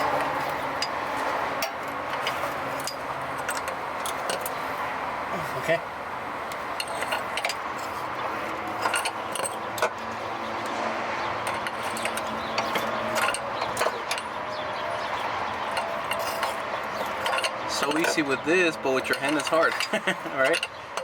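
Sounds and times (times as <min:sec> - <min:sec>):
metal tools clinking: 0:00.5 - 0:04.6, 0:06.5 - 0:10.2, 0:11.4 - 0:21.0.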